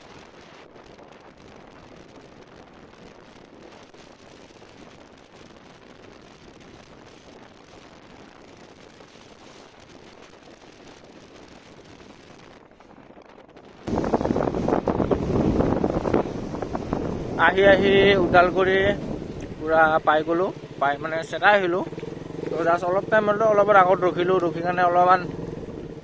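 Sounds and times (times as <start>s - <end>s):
rain and wind on microphone: 0.0s - 26.0s.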